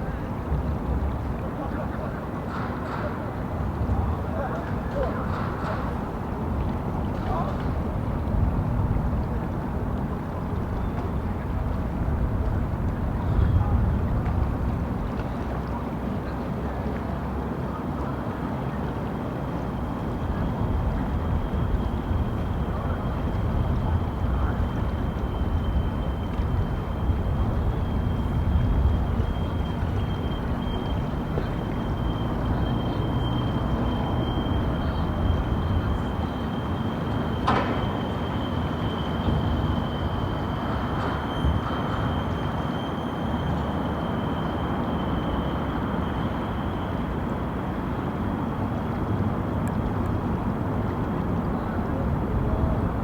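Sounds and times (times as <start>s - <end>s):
low rumble of traffic: 0.0s - 53.0s.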